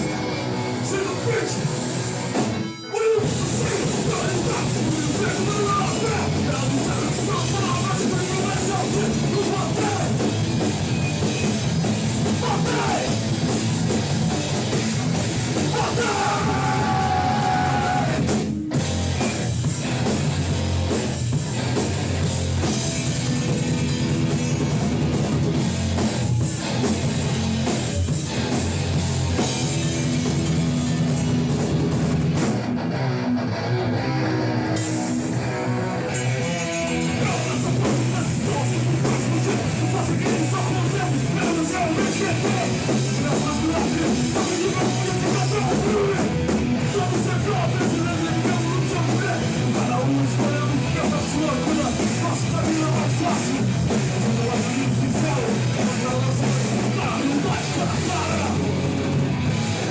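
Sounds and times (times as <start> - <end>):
punk band playing: 0.0 - 59.9.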